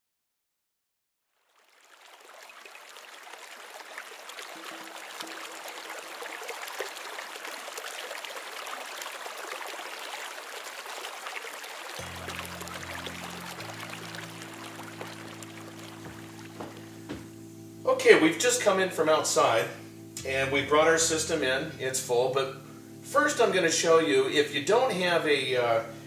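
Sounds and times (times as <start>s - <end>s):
running water rushing: 1.5s - 26.0s.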